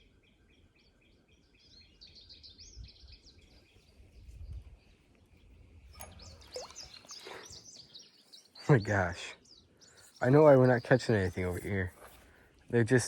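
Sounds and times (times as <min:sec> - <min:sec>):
songbird singing repeated notes: 0:00.0 - 0:13.0.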